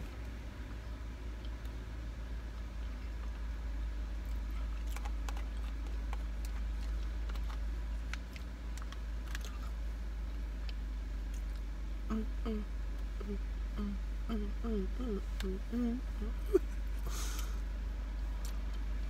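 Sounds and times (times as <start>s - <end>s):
low hum inside car: 0.0s - 19.0s.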